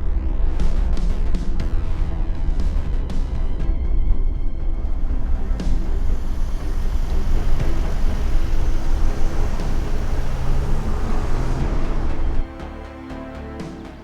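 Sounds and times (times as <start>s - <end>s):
car engine and road noise: 0.0s - 12.5s.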